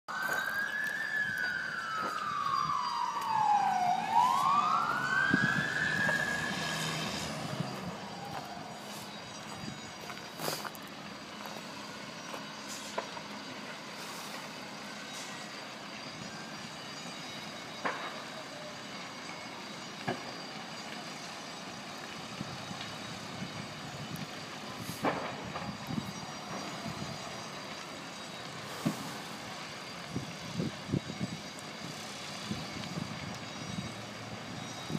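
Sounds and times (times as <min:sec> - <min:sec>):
emergency siren wailing: 0:00.1 - 0:34.9
outdoor background noise: 0:00.1 - 0:34.9.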